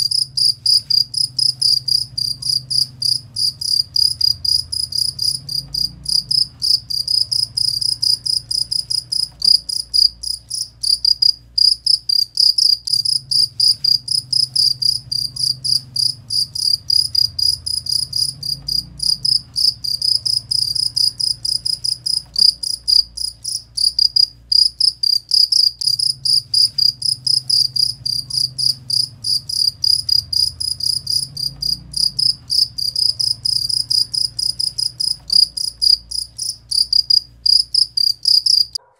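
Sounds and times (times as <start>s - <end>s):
cricket chirping: 0.0s - 38.8s.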